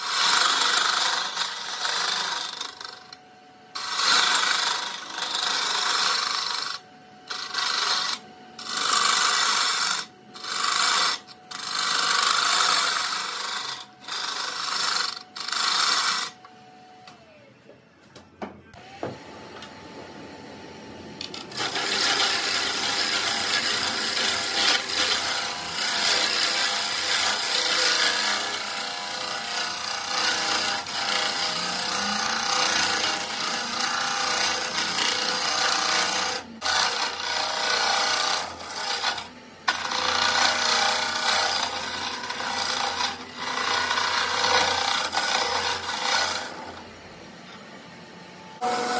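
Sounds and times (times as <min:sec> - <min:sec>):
tool cutting wood on lathe: 0:00.0 - 0:16.5, 0:21.2 - 0:47.6, 0:48.6 - 0:48.9
lathe motor hum: 0:00.0 - 0:17.2, 0:18.8 - 0:48.9.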